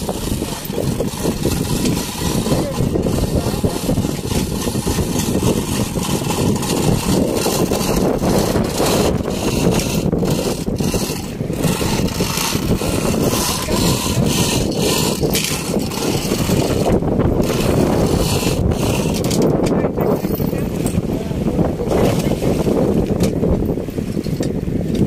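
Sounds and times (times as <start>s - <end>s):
boat engine rumbling: 0.0s - 25.0s
water splashing against hull: 0.0s - 25.0s.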